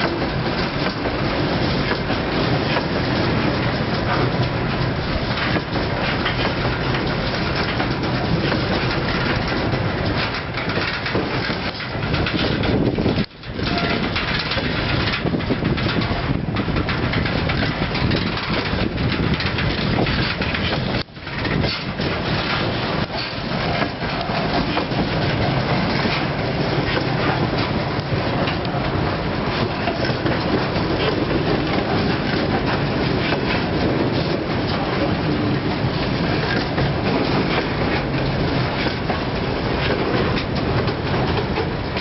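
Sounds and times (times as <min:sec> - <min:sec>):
freight train wheels rumbling on rails: 0:00.0 - 0:42.0.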